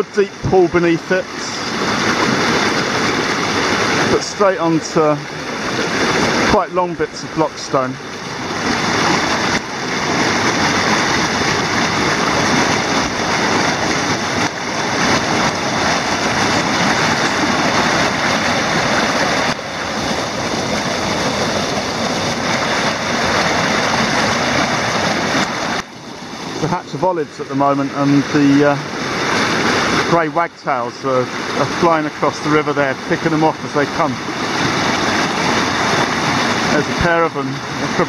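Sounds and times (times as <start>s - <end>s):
water rushing over weir: 0.0s - 38.0s.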